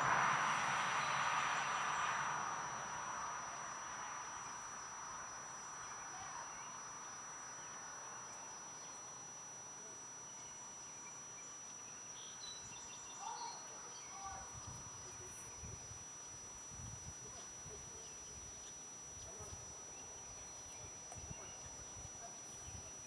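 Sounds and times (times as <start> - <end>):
insects trilling: 0.0 - 23.0
soft outdoor background noise: 0.0 - 23.0.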